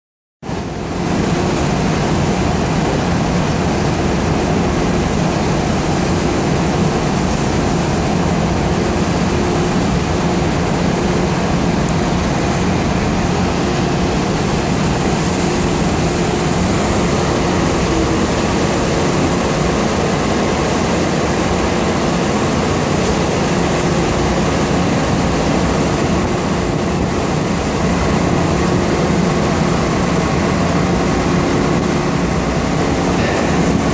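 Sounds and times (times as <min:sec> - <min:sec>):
ferry engines rumbling: 0:00.4 - 0:33.9
propeller water churning: 0:00.4 - 0:33.9.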